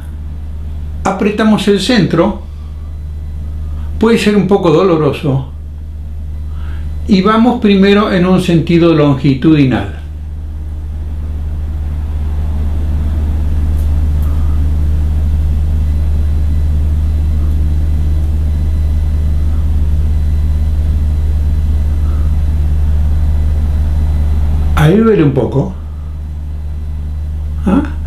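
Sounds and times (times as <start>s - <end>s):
loud low hum: 0.0s - 28.0s.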